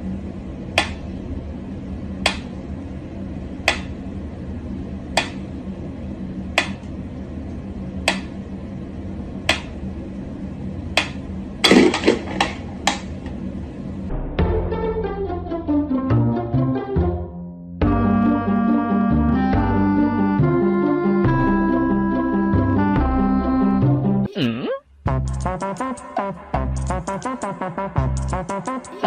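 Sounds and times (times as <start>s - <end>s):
low hum: 0.0s - 16.8s, 17.6s - 24.3s.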